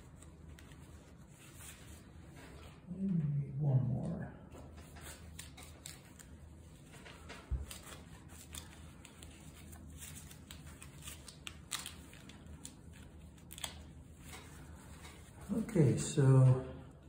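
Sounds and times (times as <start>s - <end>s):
fabric rustling in gloves: 0.0s - 2.8s, 4.8s - 15.8s.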